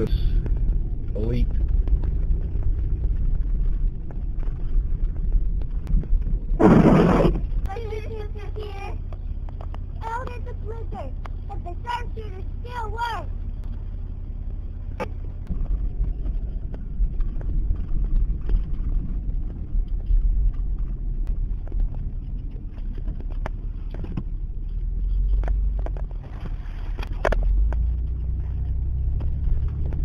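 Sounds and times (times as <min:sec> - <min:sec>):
engine and tyre rumble: 0:00.0 - 0:30.0.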